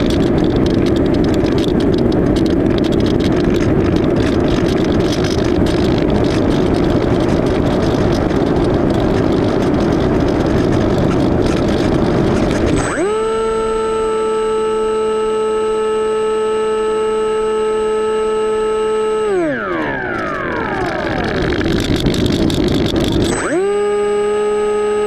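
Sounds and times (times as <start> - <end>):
electric motor and propeller whine: 0.0 - 25.0.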